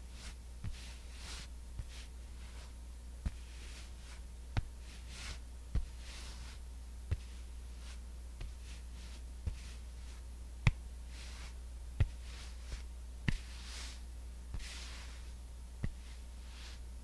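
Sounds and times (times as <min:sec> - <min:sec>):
low steady hum: 0:00.0 - 0:17.0
soft swishes: 0:00.1 - 0:16.9.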